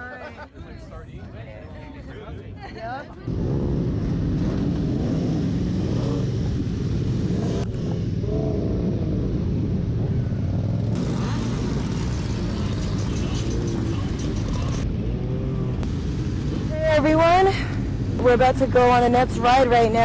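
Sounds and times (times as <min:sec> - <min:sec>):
motorcycle engines idling: 0:03.7 - 0:20.0.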